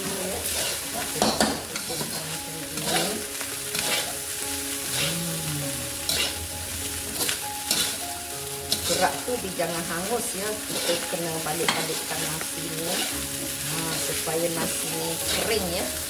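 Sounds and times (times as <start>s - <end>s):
metal spatula scraping wok: 0.0s - 5.1s, 5.9s - 8.0s, 8.7s - 16.0s
frying sizzle: 0.0s - 16.0s.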